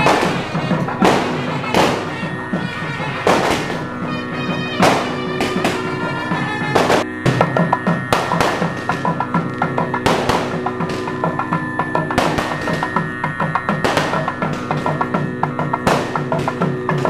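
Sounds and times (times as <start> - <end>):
cymbal crash: 0.0 - 17.0
fast drumming: 0.0 - 17.0
steady held tones: 0.0 - 17.0.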